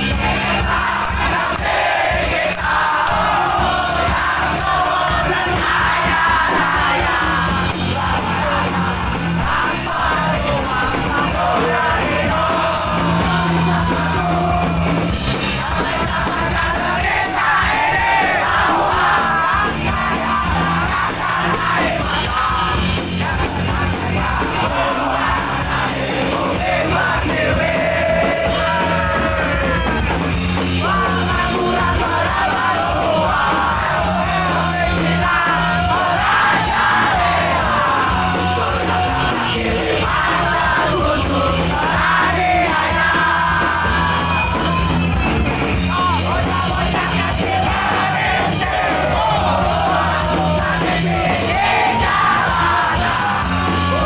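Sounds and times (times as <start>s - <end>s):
crowd singing and yelling: 0.0s - 54.0s
lead vocal singing: 0.0s - 54.0s
punk rock band playing: 0.0s - 54.0s.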